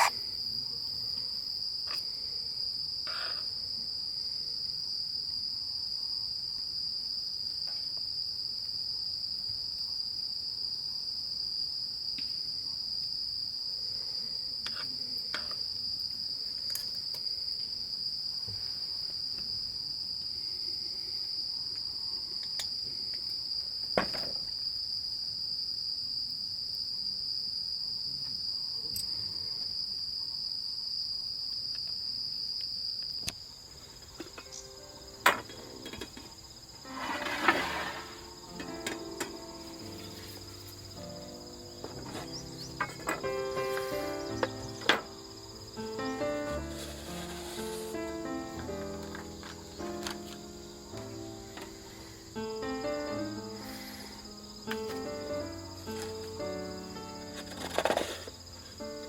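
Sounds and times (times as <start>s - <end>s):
crickets chirring: 0.0s - 59.0s.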